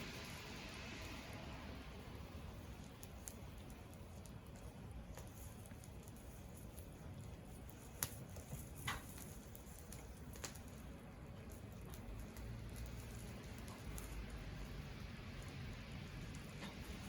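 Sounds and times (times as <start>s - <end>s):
fire crackling and popping: 0.0s - 17.0s
wood fire rumbling: 0.0s - 17.0s.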